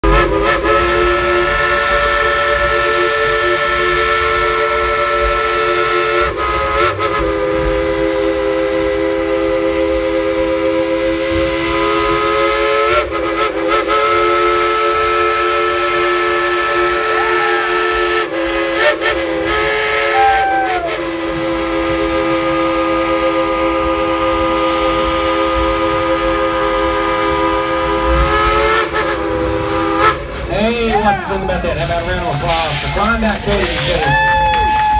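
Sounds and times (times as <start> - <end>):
steam locomotive chime whistle: 0.0 - 30.2.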